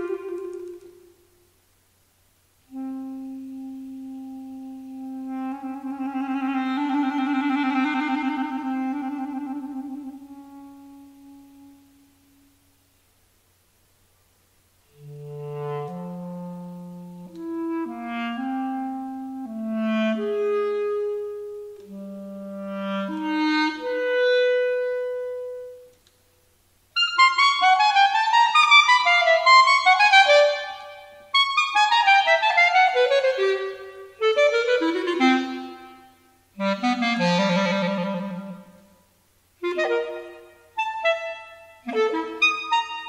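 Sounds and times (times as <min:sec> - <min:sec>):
solo clarinet playing: 0:00.0 - 0:01.2, 0:02.7 - 0:12.6, 0:14.8 - 0:26.0, 0:27.0 - 0:43.0.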